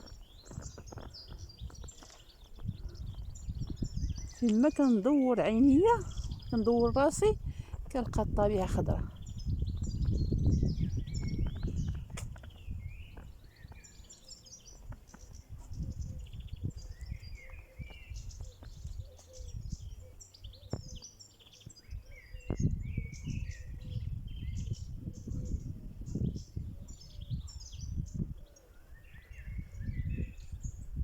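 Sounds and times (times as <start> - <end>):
songbirds chirping and trilling: 0.0 - 31.0
wind rumble on microphone: 0.0 - 31.0.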